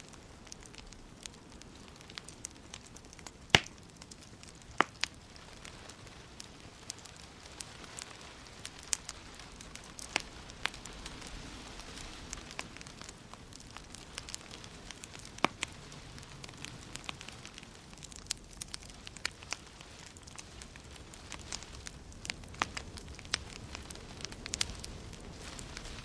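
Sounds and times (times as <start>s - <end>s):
steady hiss: 0.0s - 26.0s
wood fire crackling: 0.0s - 26.0s.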